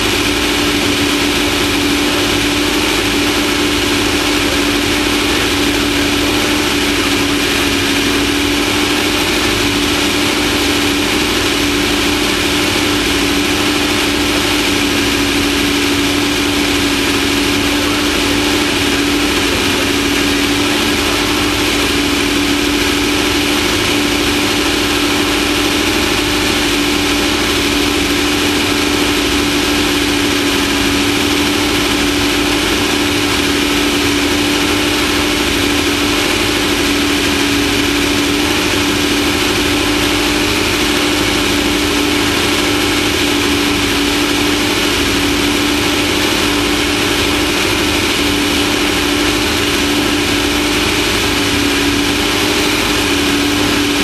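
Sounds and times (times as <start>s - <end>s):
constant rushing noise: 0.0s - 54.0s
vehicle engine running: 0.0s - 54.0s.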